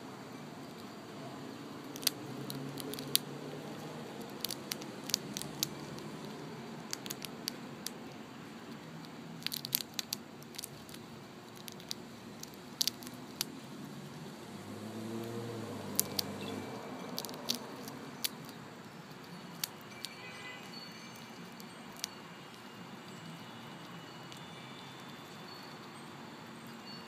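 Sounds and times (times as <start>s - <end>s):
chipmunk gnawing peanut shell: 0.5s - 26.9s.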